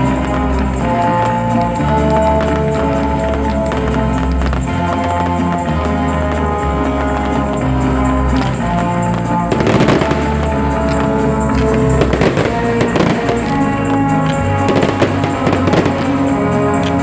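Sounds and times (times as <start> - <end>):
fireworks crackling and popping: 0.0 - 17.0
music playing: 0.0 - 17.0.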